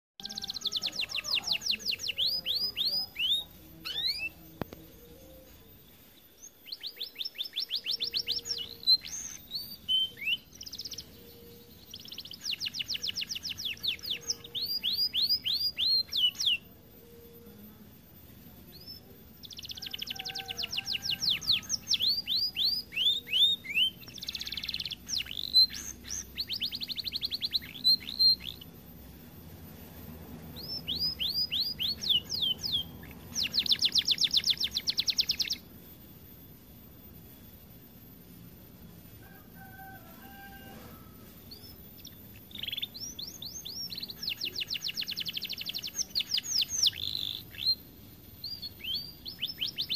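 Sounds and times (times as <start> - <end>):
canary singing fast trills: 0.2 - 49.9.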